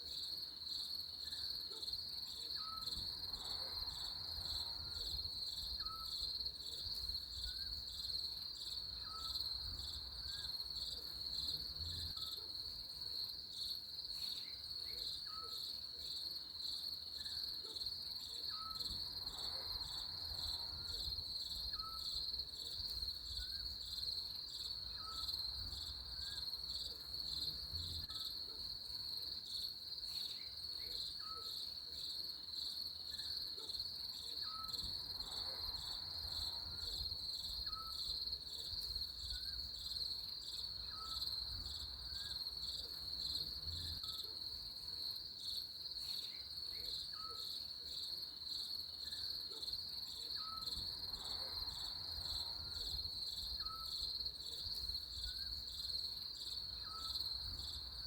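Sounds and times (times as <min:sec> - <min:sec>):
insects chirping: 0:00.1 - 0:58.0.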